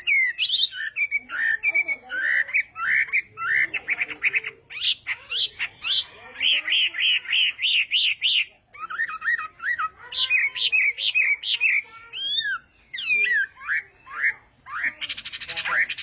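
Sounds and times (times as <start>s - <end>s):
bird whistling song: 0.0s - 16.0s.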